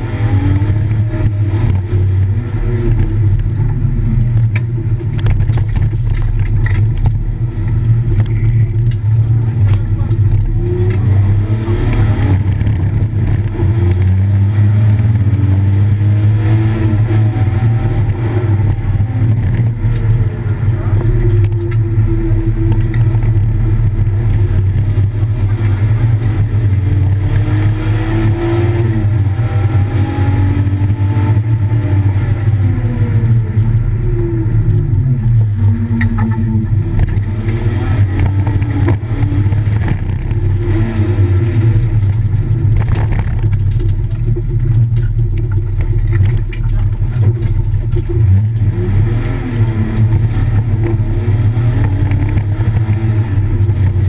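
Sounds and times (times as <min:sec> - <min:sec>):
car engine droning and revving: 0:00.0 - 0:54.0.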